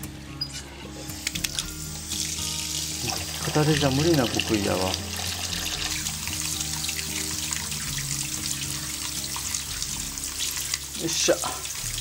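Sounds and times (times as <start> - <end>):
background music with low notes: 0.0 - 12.0
water stream trickling over noodles: 2.1 - 12.0.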